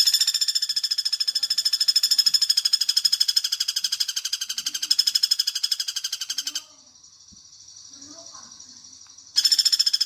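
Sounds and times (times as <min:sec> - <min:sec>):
woodpecker rattling trill: 0:00.0 - 0:10.0.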